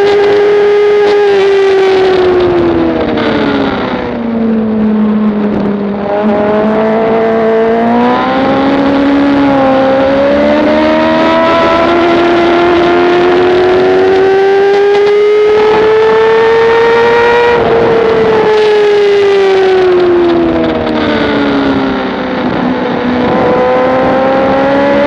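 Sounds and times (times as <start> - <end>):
motorcycle engine revving: 0.0 - 25.0
wind rush: 0.0 - 25.0.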